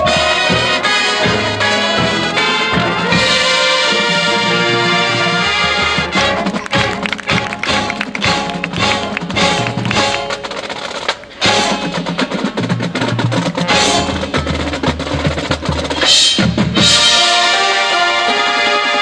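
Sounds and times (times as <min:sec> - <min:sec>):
marching band playing: 0:00.0 - 0:19.0
rapid drum strokes and rolls: 0:00.0 - 0:19.0.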